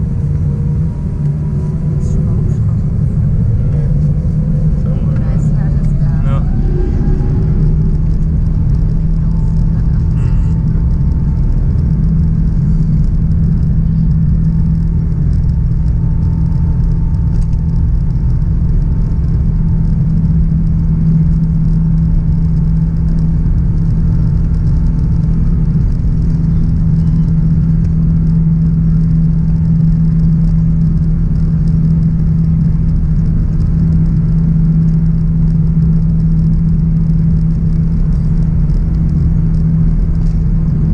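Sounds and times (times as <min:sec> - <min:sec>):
aircraft cabin engine rumble: 0:00.0 - 0:40.9.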